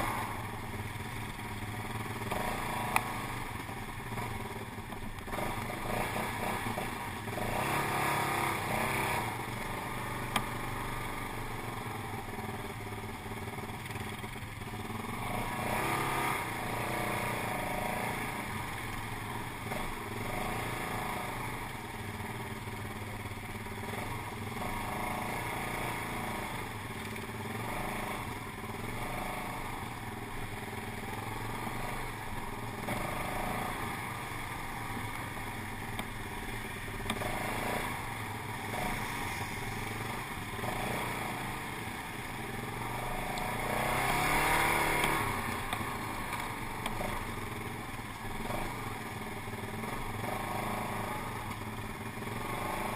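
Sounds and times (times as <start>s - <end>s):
quad bike engine: 0.0s - 52.9s.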